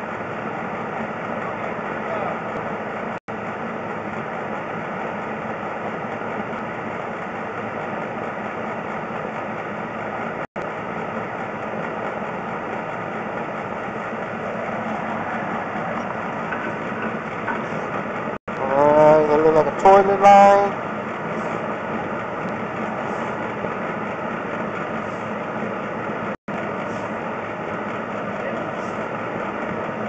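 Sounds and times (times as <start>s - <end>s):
machine running with low hum and hiss: 0.0s - 30.0s.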